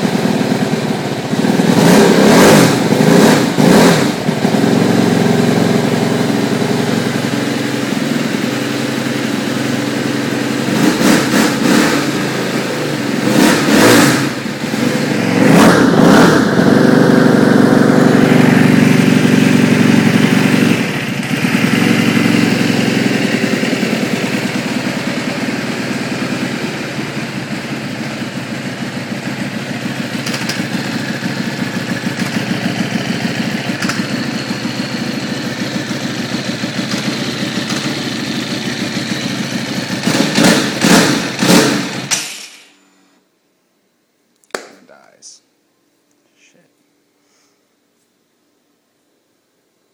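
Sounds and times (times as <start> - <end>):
motorcycle engine revving and idling: 0.0 - 42.5.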